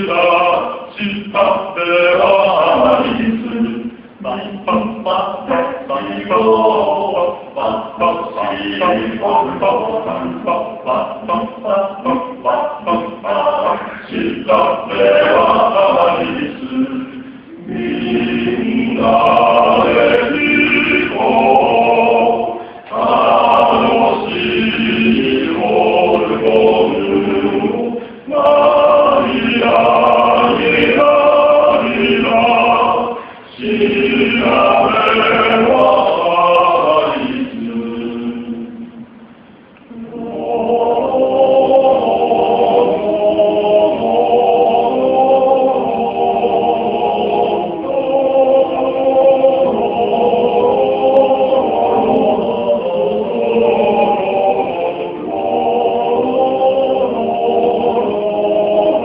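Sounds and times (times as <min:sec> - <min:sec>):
male vocal ensemble singing: 0:00.0 - 0:59.0.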